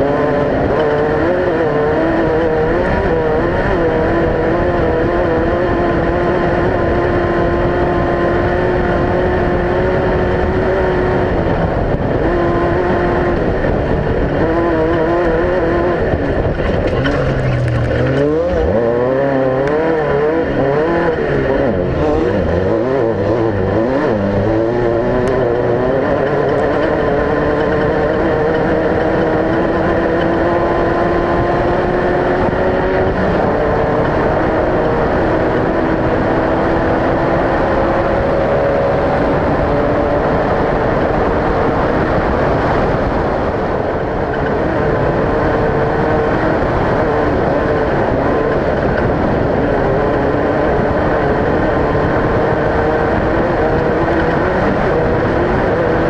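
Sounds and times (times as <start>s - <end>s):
race vehicle engine revving: 0.0s - 56.0s.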